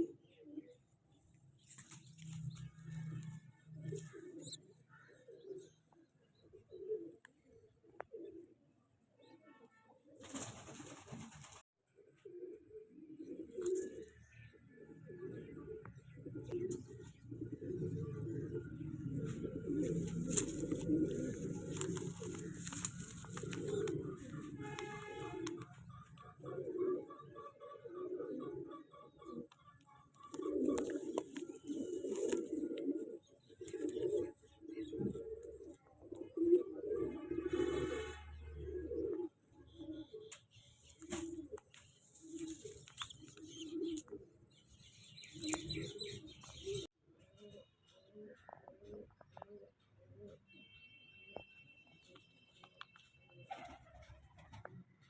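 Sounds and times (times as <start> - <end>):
pigeons cooing: 0.0 - 8.8, 10.0 - 50.5.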